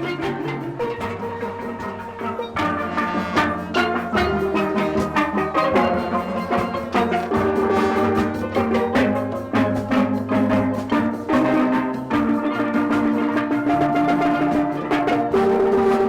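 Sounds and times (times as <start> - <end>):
held chords: 0.0 - 16.0
struck percussion beat: 0.0 - 16.0.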